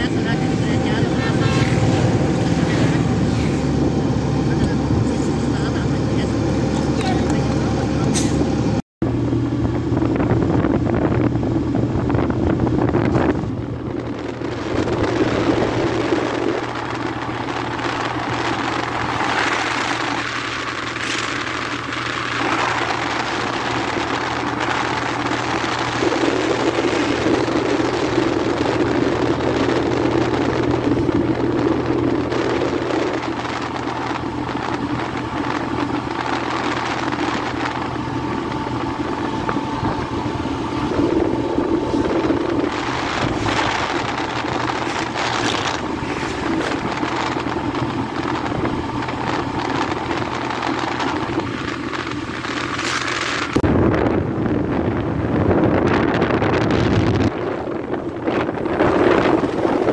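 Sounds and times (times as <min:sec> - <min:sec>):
road and wind noise: 0:00.0 - 0:59.9
vehicle engine hum: 0:00.0 - 0:59.9.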